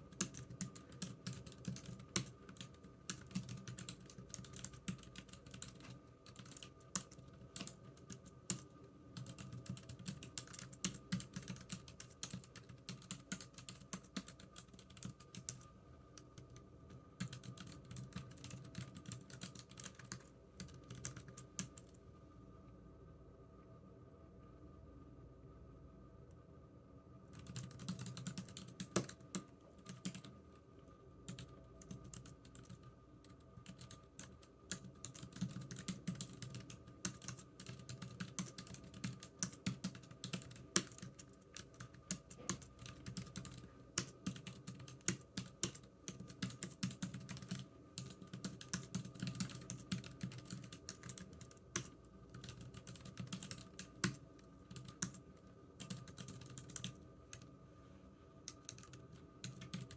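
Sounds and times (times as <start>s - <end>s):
keyboard typing: 0.0s - 22.0s, 27.3s - 30.3s, 31.3s - 57.5s, 58.5s - 59.9s.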